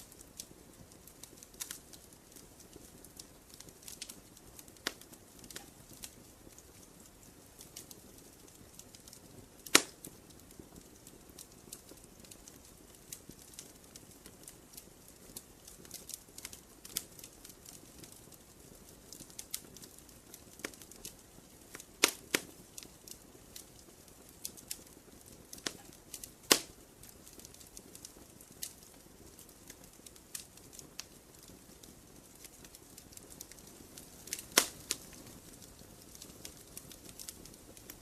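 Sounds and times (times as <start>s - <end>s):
campfire crackling and popping: 0.0s - 38.0s.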